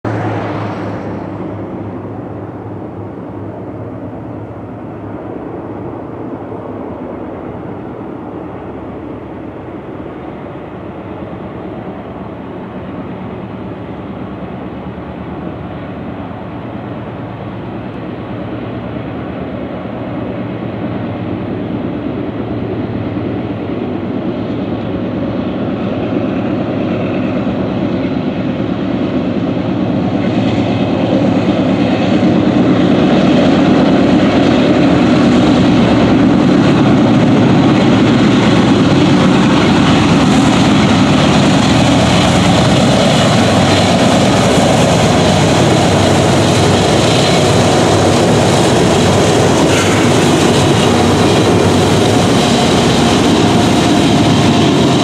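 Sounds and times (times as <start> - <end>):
diesel locomotive engine drone: 0.0 - 55.0.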